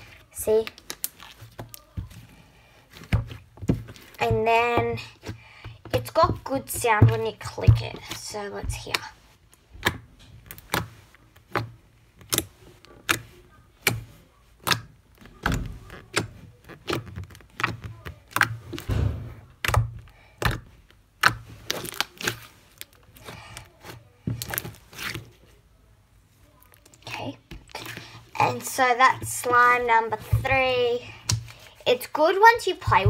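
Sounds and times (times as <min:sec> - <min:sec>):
slime squishing: 0:00.0 - 0:33.0.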